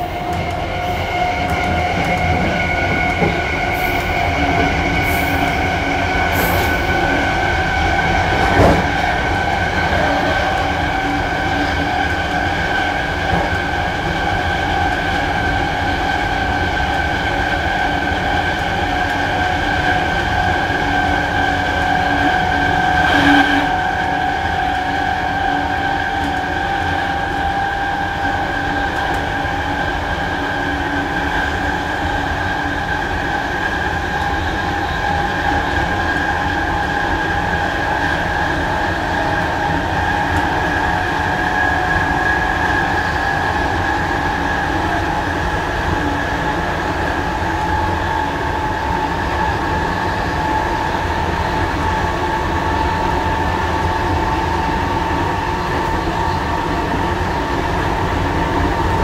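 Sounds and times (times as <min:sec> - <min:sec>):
electric train motors whining: 0:00.0 - 0:59.0
wheels rumbling on track: 0:00.0 - 0:59.0.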